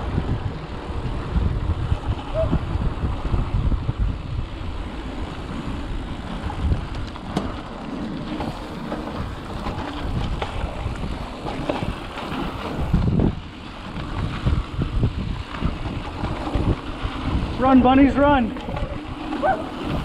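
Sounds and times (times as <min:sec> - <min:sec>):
bike rattling and knocking: 0:00.0 - 0:20.0
bike tyres rolling on dirt: 0:00.0 - 0:20.0
wind buffeting microphone: 0:00.0 - 0:20.0.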